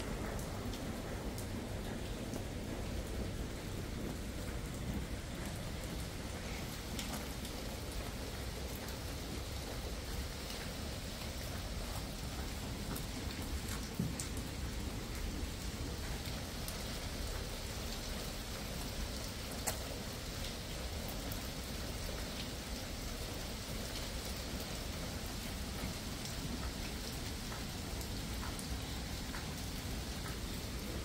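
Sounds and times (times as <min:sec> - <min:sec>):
raindrop ticks: 0:00.0 - 0:31.0
steady rain hiss: 0:00.0 - 0:31.0.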